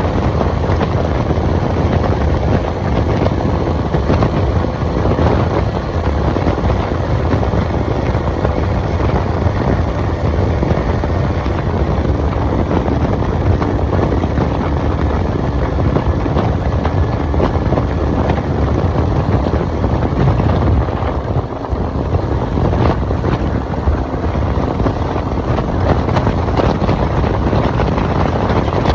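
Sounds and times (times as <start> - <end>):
motorcycle engine at high speed: 0.0 - 28.9
wind rushing over microphone: 0.0 - 28.9.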